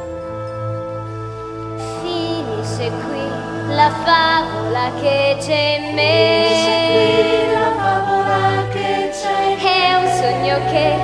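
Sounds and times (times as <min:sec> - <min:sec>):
orchestra playing soft chords: 0:00.0 - 0:11.0.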